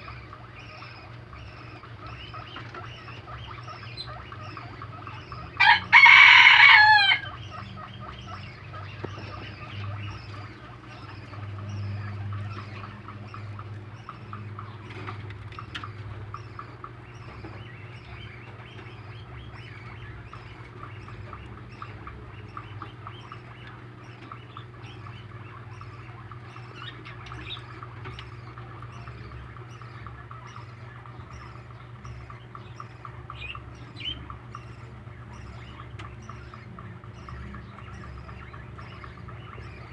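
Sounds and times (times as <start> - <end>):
loud bird call: 0.0 - 39.9.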